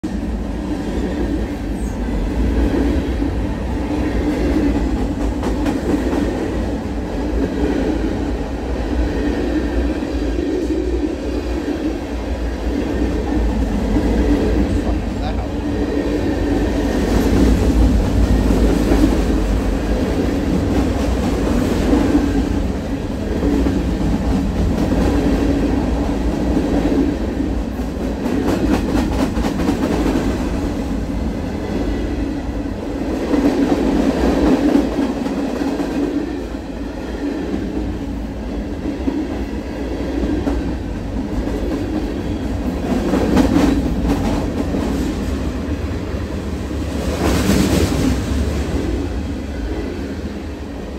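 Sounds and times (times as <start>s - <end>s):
freight train rumble: 0.0s - 50.9s.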